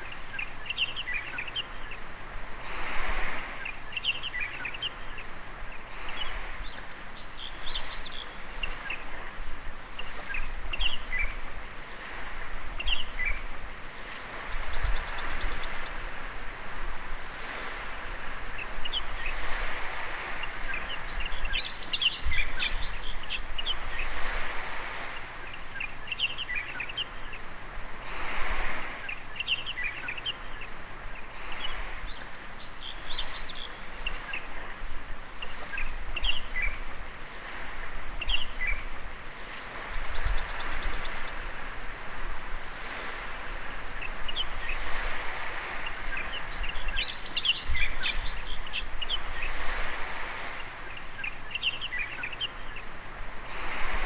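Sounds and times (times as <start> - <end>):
birds chirping: 0.0 - 2.2, 3.2 - 16.4, 17.5 - 27.6, 28.8 - 42.2, 42.8 - 53.0
small waves washing on beach: 0.0 - 54.0.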